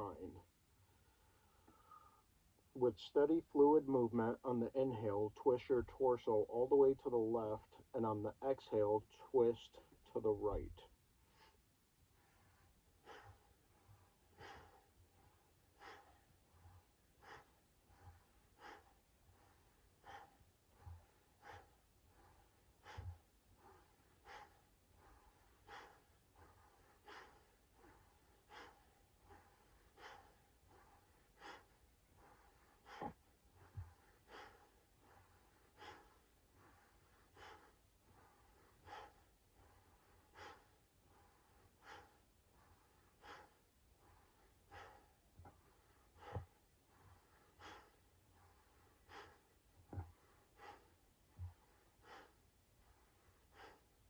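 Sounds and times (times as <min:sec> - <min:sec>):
quick rhythmic breathing: 0:00.0 - 0:54.0.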